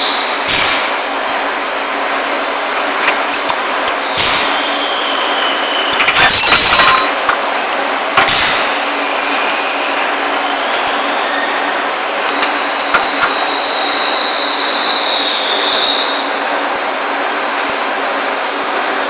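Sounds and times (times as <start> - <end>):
lathe running with high whine: 0.0 - 19.0.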